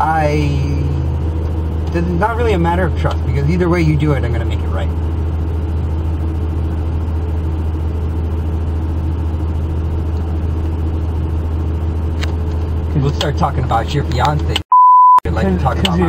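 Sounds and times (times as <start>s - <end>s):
vehicle engine drone from inside: 0.0s - 16.0s.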